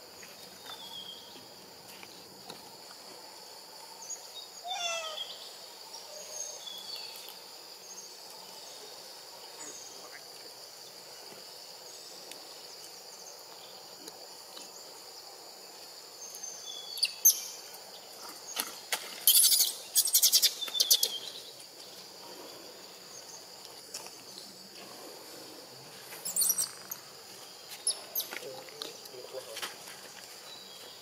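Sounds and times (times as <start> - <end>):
forest insects droning: 0.0 - 31.0.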